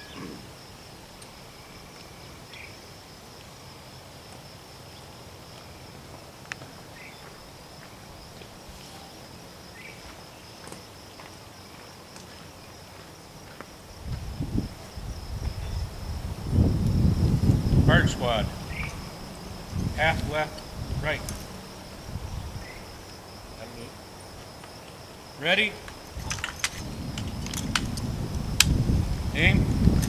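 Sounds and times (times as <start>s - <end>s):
insect trill: 0.0s - 30.0s.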